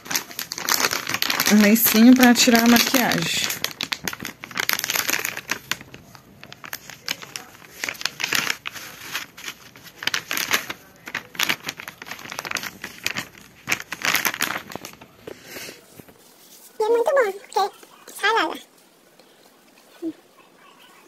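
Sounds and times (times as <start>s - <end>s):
plastic wrapper crinkling: 0.0s - 20.1s.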